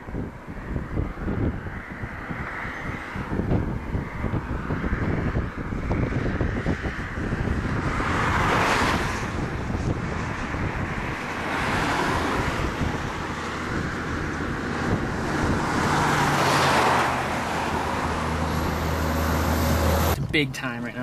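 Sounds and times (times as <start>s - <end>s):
low vehicle engine hum: 0.0s - 21.0s
wind buffeting microphone: 0.0s - 21.0s.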